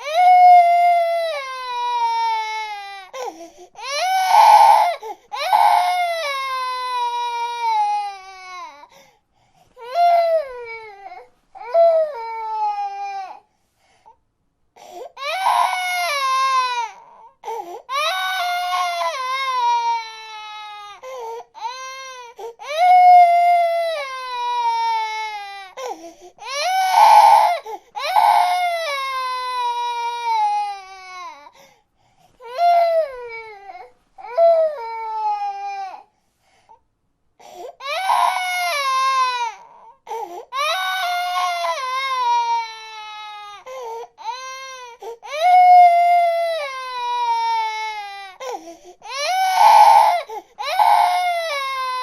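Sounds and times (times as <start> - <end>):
baby crying: 0.0 - 9.0, 9.8 - 13.4, 14.9 - 31.6, 32.4 - 36.1, 37.4 - 52.0.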